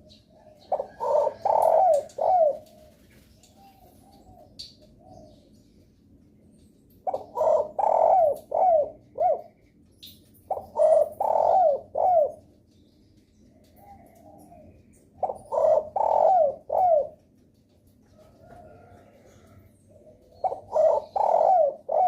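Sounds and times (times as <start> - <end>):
dove cooing: 0.0 - 5.7, 7.0 - 9.7, 10.4 - 12.6, 13.5 - 22.0.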